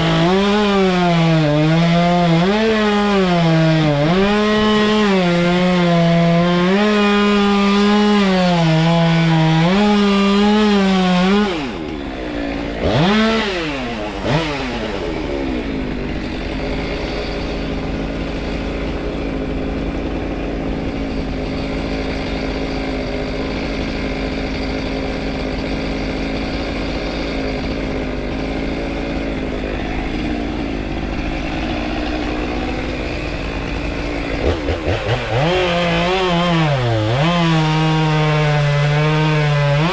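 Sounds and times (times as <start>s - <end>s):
chainsaw cutting and idling: 0.0s - 39.9s.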